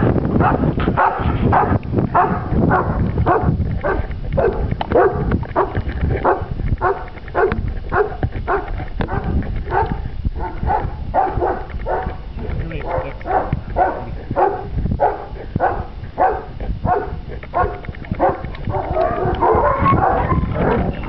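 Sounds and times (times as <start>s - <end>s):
dog barking: 0.4s - 12.2s, 12.8s - 20.9s.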